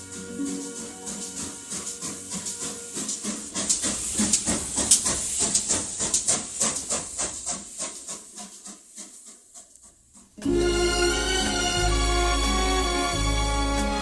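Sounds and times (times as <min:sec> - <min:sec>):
steam hiss: 0:00.0 - 0:14.0
steam locomotive chuffing: 0:00.0 - 0:14.0.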